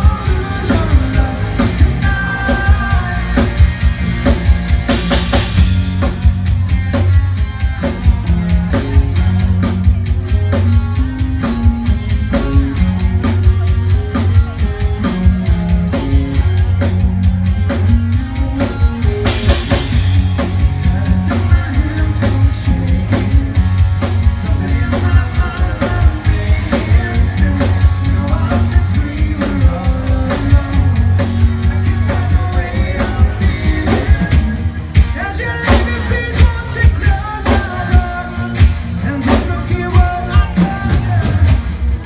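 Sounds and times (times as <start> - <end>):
drum kit beat: 0.0 - 42.0
live rock band playing: 0.0 - 42.0.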